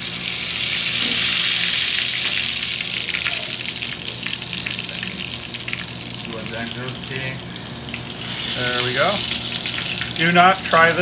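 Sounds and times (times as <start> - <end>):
oil sizzling and spitting: 0.0 - 11.0.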